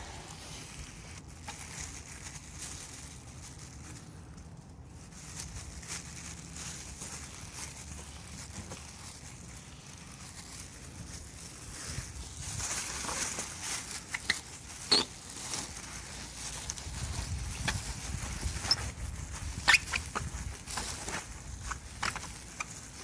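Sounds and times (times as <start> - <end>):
cloth rubbing plastic: 0.0 - 4.4, 5.0 - 23.0.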